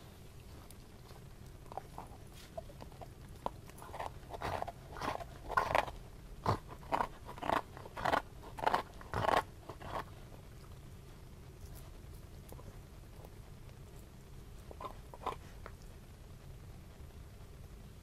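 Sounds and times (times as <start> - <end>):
dog gnawing a bone: 0.0 - 16.5.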